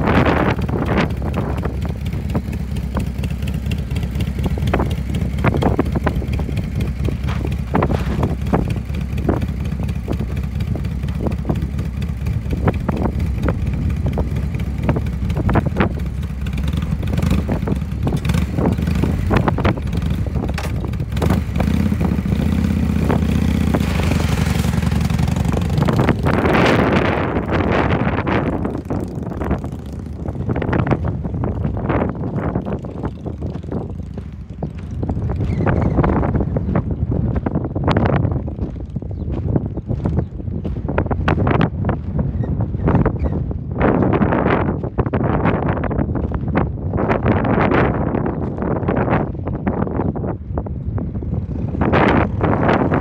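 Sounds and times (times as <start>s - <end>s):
motorcycle engine idling: 0.0s - 44.1s
motorcycle revving and pulling away: 0.0s - 53.0s.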